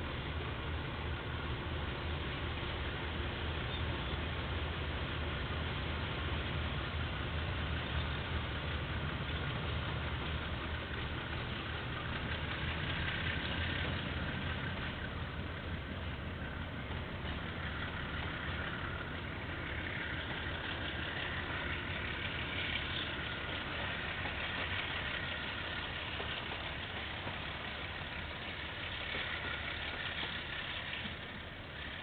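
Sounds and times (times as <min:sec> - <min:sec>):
freight train wagons rumbling: 0:00.0 - 0:32.0.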